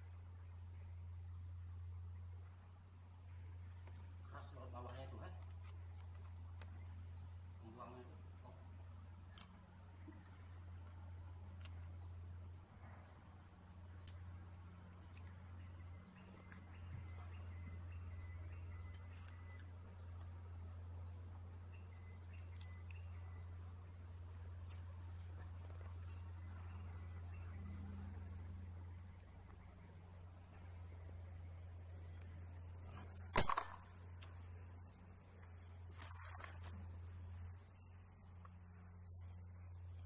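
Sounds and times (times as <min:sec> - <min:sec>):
high insect trill: 0:00.0 - 0:40.0
low steady hum: 0:00.0 - 0:40.0.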